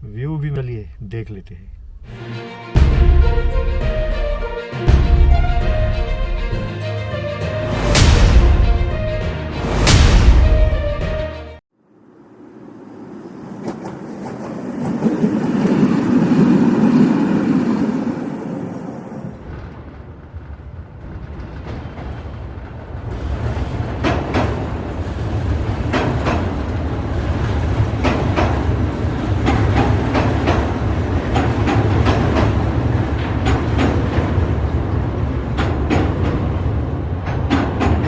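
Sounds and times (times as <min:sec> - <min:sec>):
moving vehicle rumble: 0:01.5 - 0:38.0.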